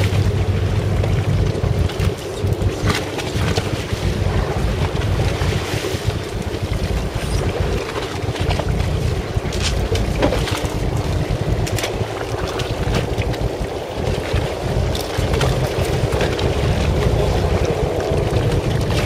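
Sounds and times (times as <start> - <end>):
boat engine rumbling: 0.0 - 19.0
wind buffeting microphone: 0.0 - 19.0.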